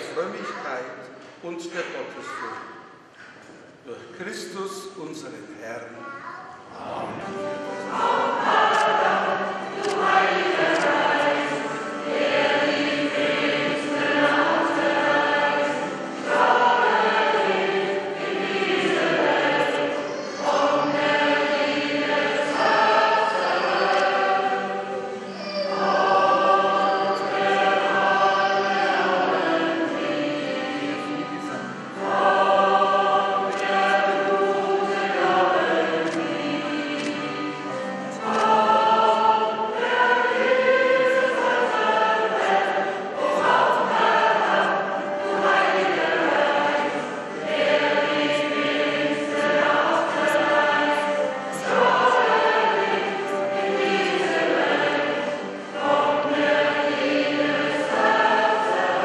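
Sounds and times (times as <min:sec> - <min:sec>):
church choir singing: 0:00.0 - 0:03.1, 0:06.7 - 0:59.0.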